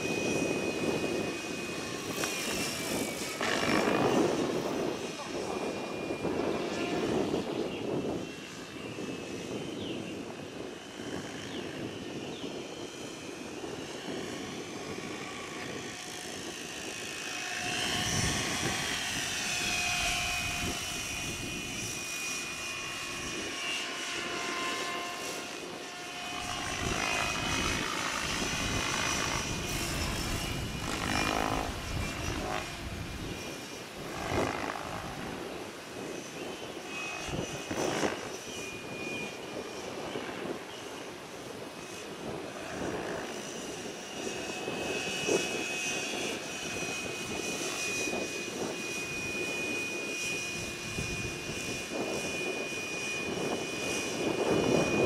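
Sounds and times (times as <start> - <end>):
rc helicopter motor whine: 0.0 - 55.0
wind on microphone: 0.0 - 55.0.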